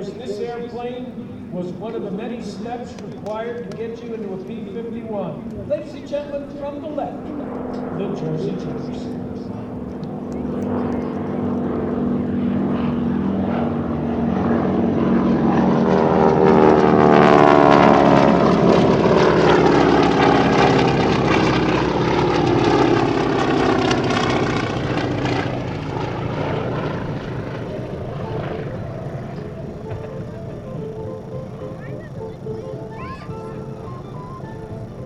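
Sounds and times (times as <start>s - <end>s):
propeller planes flying past: 0.0s - 35.0s.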